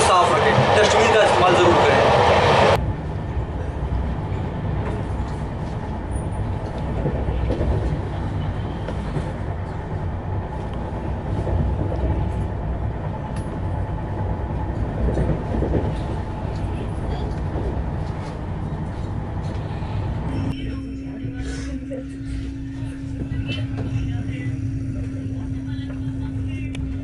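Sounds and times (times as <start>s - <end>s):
train rumble inside coach: 0.0s - 27.0s.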